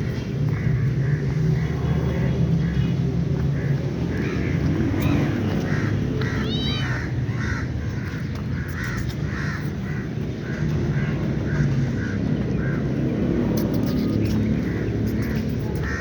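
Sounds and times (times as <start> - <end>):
crows cawing: 0.5 - 1.7, 2.6 - 13.0, 14.2 - 16.0.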